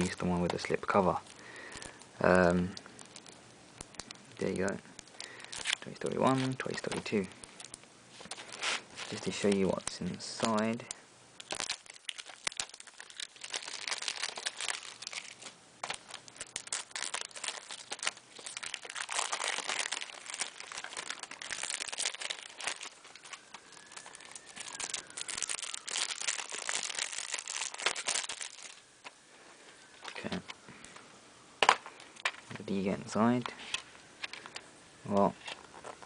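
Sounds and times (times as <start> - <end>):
plastic wrap crinkling and tearing: 0.0 - 29.2, 33.5 - 36.0.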